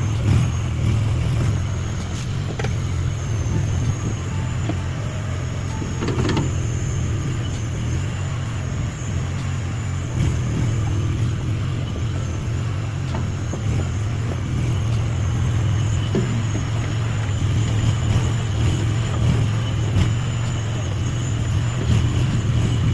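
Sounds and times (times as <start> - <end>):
skid steer engine running: 0.0 - 22.9.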